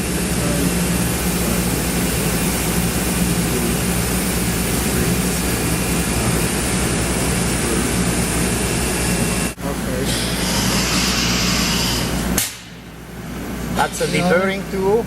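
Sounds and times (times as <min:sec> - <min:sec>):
loud machine hum: 0:00.0 - 0:15.0.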